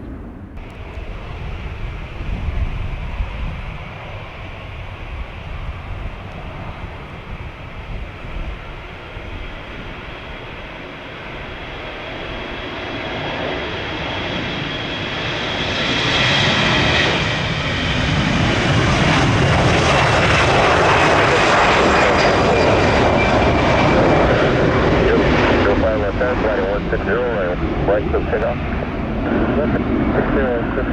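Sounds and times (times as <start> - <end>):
high engine whine: 0.0 - 30.9
jet engines roaring: 0.0 - 30.9.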